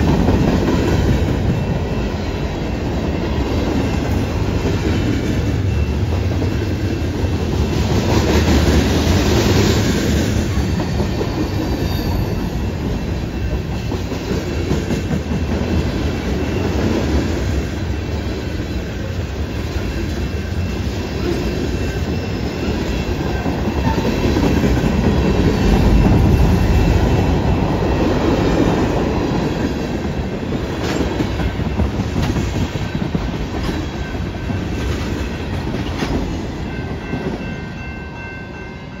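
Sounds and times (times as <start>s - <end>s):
rumble of steel wheels on rails: 0.0s - 39.0s.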